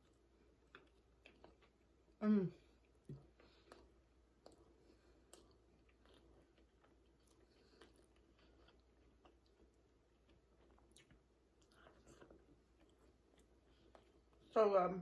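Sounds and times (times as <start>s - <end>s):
faint chewing: 0.0s - 14.6s.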